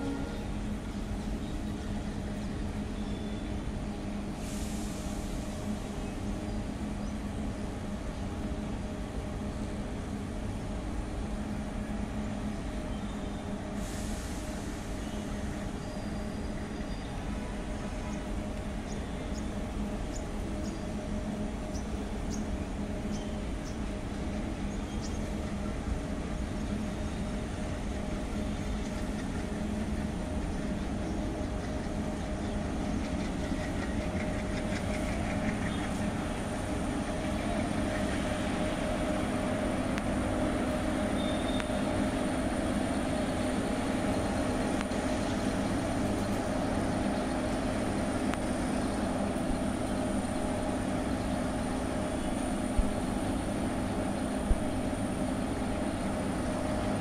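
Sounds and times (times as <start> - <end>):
train rumbling along track: 0.0 - 57.0.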